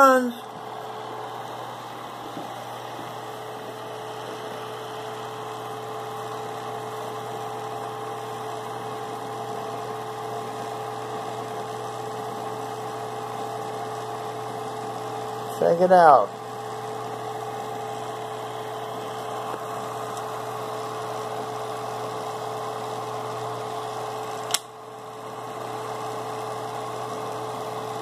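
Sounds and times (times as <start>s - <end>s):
projector motor humming: 0.0s - 28.0s.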